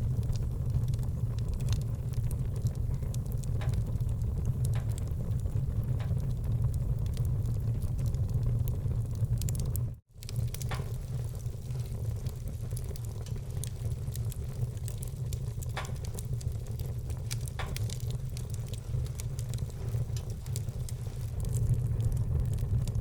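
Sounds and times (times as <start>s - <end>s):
fire popping: 0.0s - 23.0s
steady low rumble: 0.0s - 23.0s
wood fire crackling: 0.0s - 23.0s.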